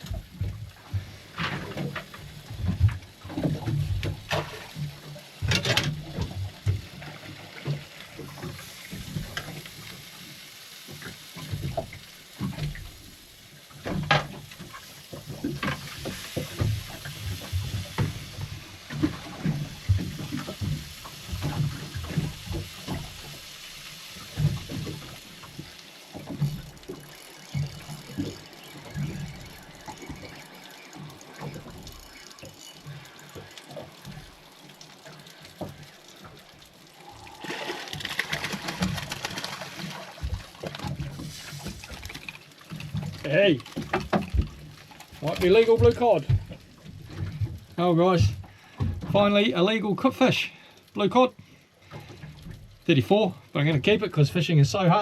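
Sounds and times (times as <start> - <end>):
waves slapping against boat hull: 0.0 - 10.0, 10.9 - 13.0, 13.6 - 55.0.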